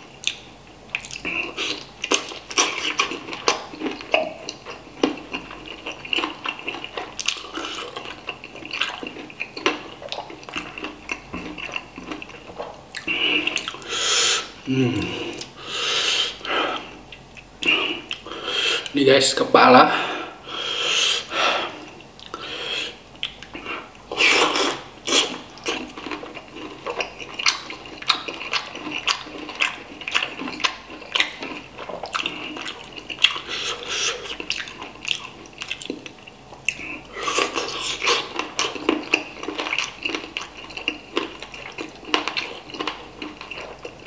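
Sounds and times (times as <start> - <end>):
wet chewing and slurping: 0.0 - 18.9, 20.7 - 44.0.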